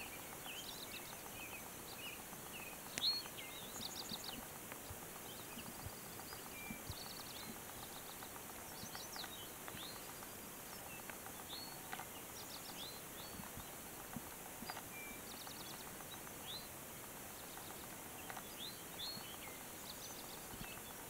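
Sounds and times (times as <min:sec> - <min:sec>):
songbirds singing: 0:00.0 - 0:21.0
steady hiss: 0:00.0 - 0:21.0.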